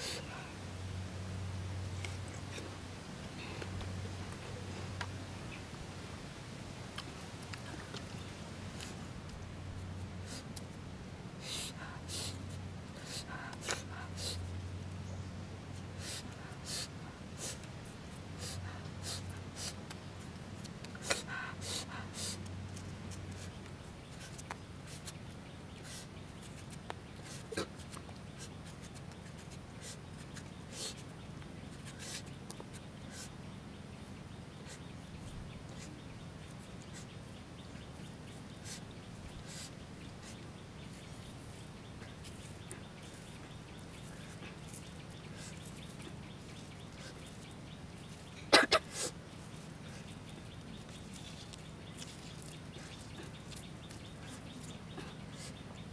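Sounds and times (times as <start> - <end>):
low background hum: 0.0 - 55.9.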